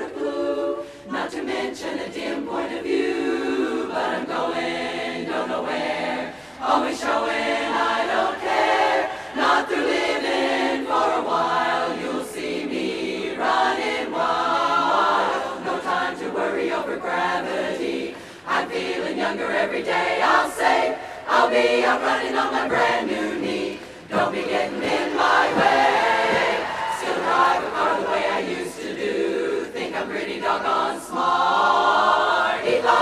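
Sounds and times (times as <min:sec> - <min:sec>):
women's chorus singing a cappella: 0:00.0 - 0:33.0.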